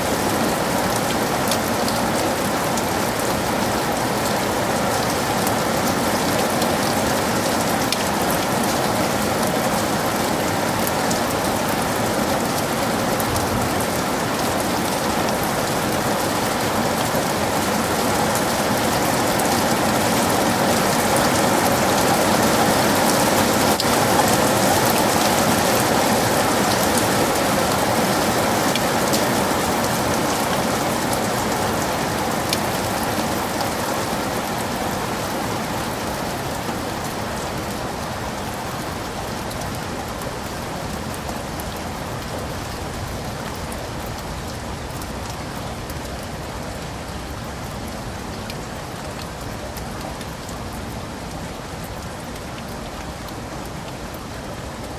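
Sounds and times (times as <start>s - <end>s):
heavy rain in forest: 0.0s - 54.9s.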